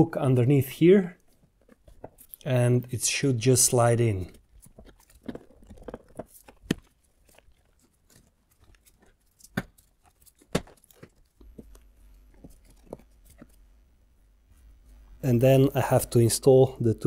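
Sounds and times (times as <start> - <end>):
scraping and handling noise: 0.8 - 16.0.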